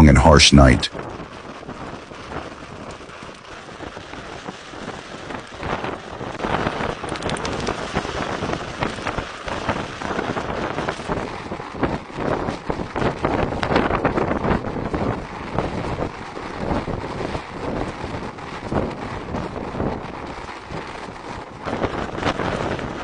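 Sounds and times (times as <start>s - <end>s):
blizzard wind blowing: 0.0s - 23.0s.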